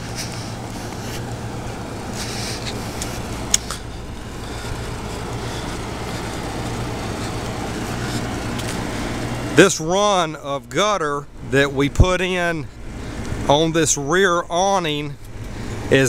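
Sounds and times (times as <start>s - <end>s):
vehicle engines humming: 0.0s - 16.0s.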